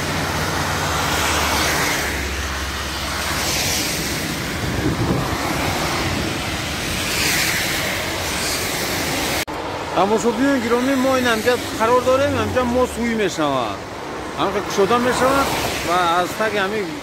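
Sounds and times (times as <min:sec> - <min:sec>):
cars passing on wet road: 0:00.0 - 0:17.0
low traffic rumble: 0:00.0 - 0:17.0.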